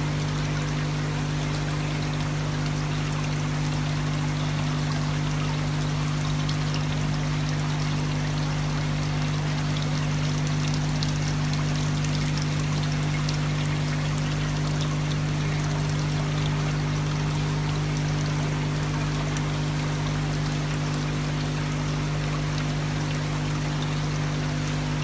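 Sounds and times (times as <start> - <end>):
fountain water trickling and splashing: 0.0 - 25.0.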